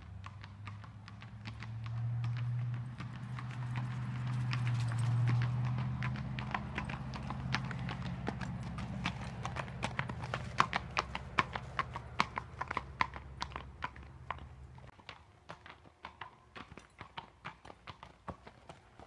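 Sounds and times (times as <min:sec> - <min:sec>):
hoofbeats on hard path: 0:00.0 - 0:19.0.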